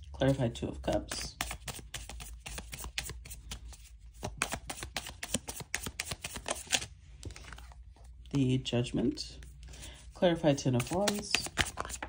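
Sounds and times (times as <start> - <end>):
cards being shuffled: 0.3 - 8.0, 9.4 - 12.0.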